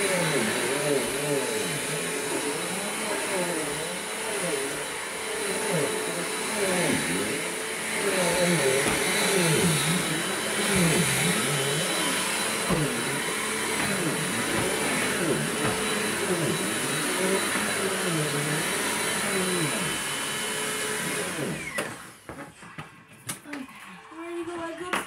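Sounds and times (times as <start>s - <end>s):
vacuum motor winding down whine: 0.0s - 22.1s
upright vacuum cleaner running: 0.0s - 22.4s.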